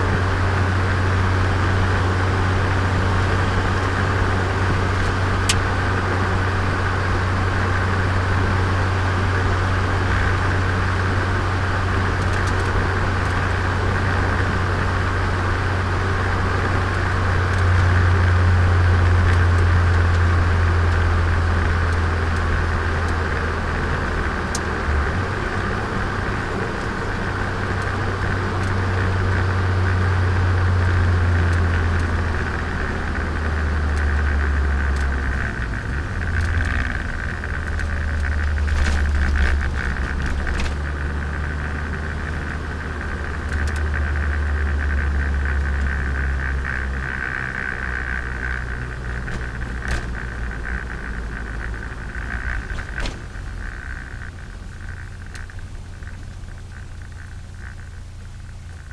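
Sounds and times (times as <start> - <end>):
car engine and road noise: 0.0 - 58.9.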